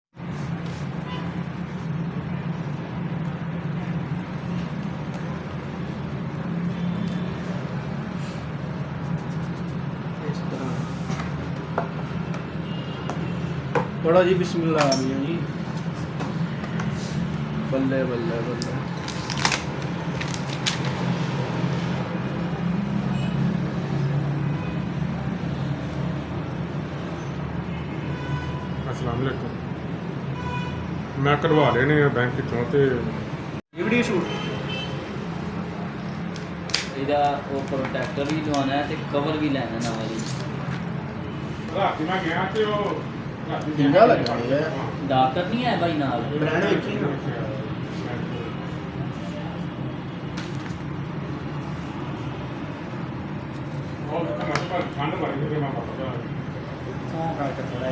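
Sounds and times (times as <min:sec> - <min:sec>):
noisy background: 0:00.1 - 0:57.9.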